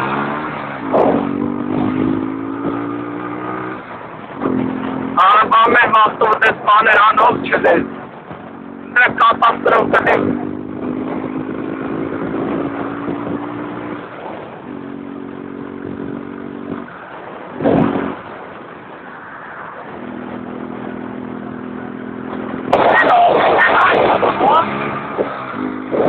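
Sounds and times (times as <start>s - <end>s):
vehicle engine running: 0.0s - 18.3s, 19.9s - 26.0s
road and wind noise: 0.0s - 26.0s.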